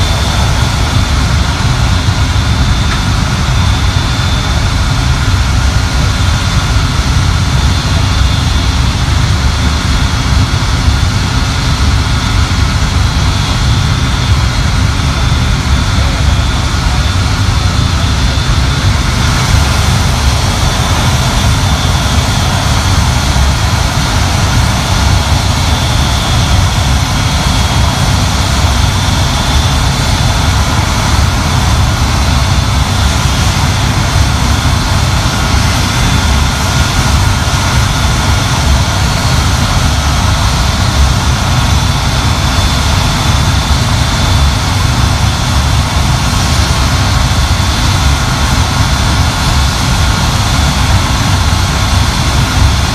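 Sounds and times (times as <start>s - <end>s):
high engine whine: 0.0s - 52.9s
jet engines deep rumble: 0.0s - 52.9s.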